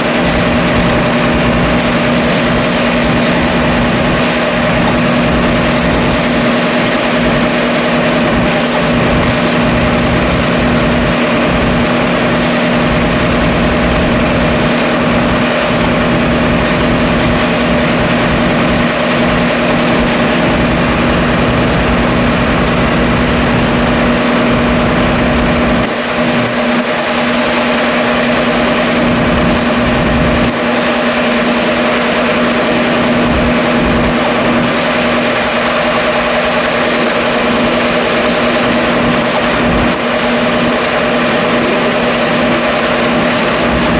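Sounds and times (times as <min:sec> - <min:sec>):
steady mechanical drone: 0:00.0 - 0:43.9.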